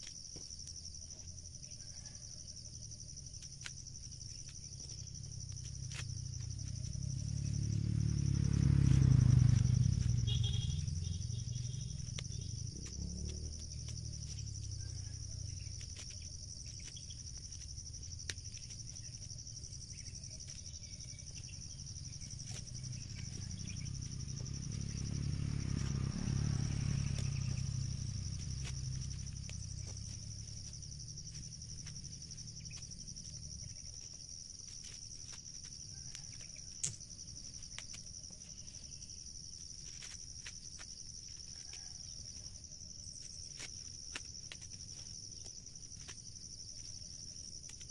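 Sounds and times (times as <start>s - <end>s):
high insect drone: 0.0s - 47.9s.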